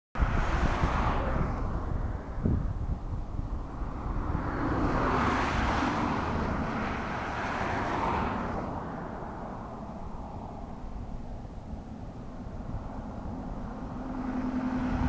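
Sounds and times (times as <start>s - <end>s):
vehicle passing by: 0.2s - 2.7s, 3.4s - 15.0s
wind rumbling on microphone: 0.2s - 15.0s.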